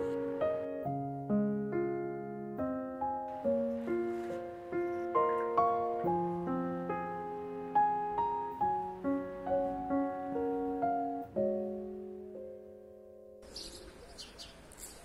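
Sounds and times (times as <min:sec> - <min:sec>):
piano music: 0:00.0 - 0:13.6.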